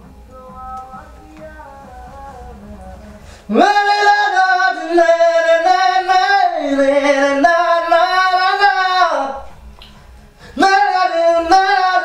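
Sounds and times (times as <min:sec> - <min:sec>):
man singing wordless melody: 0:00.0 - 0:09.7, 0:10.4 - 0:12.0
faint instrumental music: 0:00.0 - 0:12.0.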